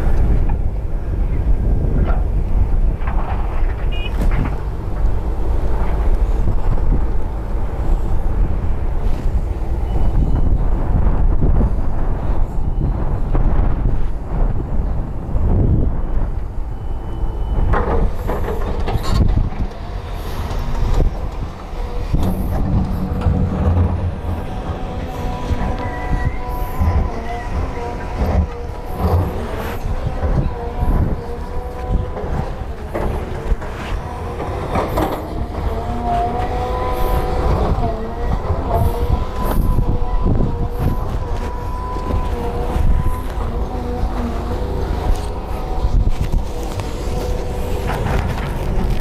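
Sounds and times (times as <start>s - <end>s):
excavator diesel engine rumbling: 0.0s - 49.0s.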